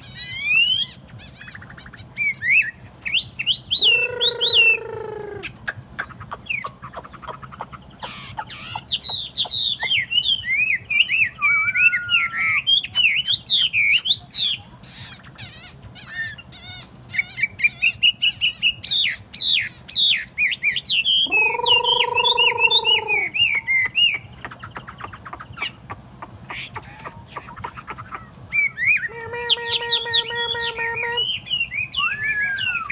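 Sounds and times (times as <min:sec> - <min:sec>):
songbird whistling and trilling: 0:00.0 - 0:25.8, 0:26.5 - 0:32.9.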